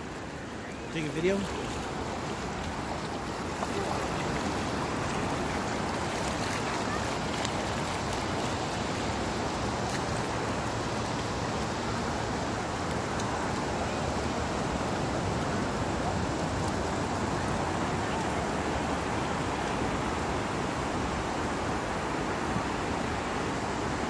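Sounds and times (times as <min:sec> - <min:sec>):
ocean surf washing ashore: 0:00.0 - 0:24.0.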